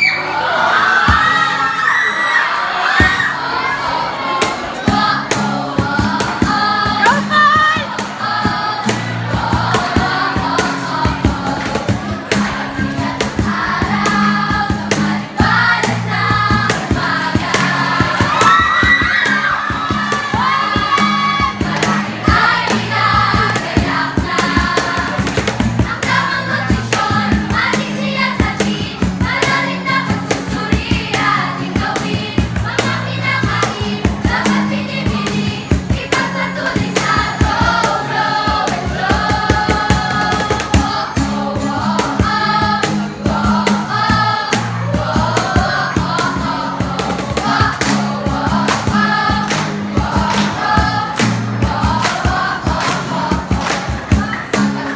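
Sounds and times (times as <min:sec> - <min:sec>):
group singing a jingle: 0:02.5 - 0:54.9
music with steady beat: 0:04.4 - 0:54.9.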